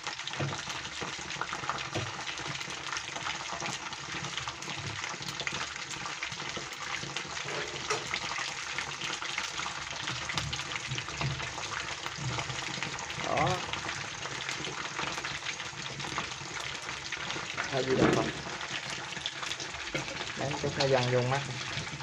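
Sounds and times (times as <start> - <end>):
mushrooms frying in oil: 0.0 - 22.0.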